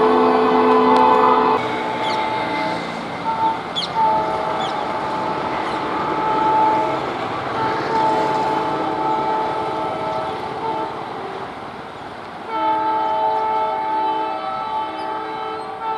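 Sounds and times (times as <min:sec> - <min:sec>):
train horn blast: 0:00.0 - 0:11.6, 0:12.4 - 0:15.9
train rumbling past: 0:00.0 - 0:15.9.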